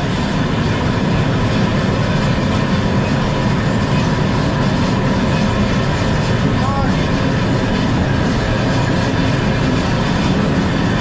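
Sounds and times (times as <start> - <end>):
vehicle running rumble: 0.0 - 11.0.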